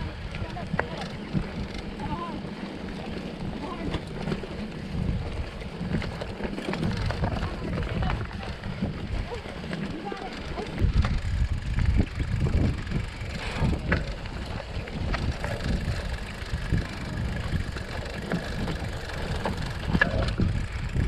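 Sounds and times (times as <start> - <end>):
bike rattling over bumps: 0.0 - 21.0
bike rolling over dirt trail: 0.0 - 21.0
wind rumbling on microphone: 0.0 - 21.0.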